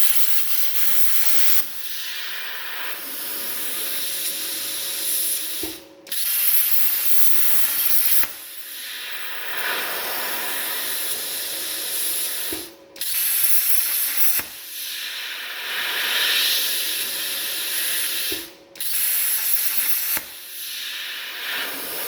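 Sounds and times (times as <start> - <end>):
plasma cutter arc hissing: 0.0 - 22.0.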